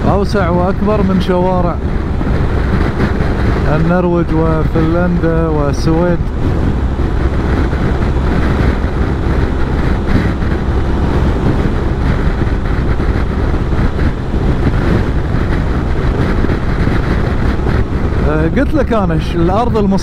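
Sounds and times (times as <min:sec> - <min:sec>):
motorcycle engine hum: 0:00.0 - 0:20.0
wind rush: 0:00.0 - 0:20.0.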